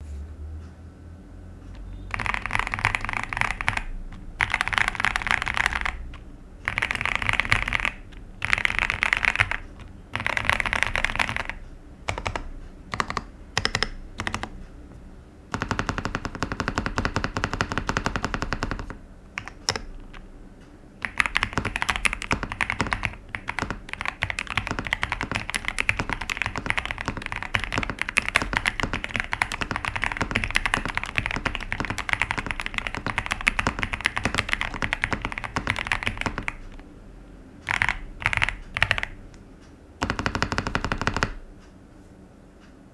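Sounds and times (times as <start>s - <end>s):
mechanical keyboard typing: 1.8s - 20.3s, 21.0s - 36.9s, 37.6s - 39.4s, 40.0s - 41.7s.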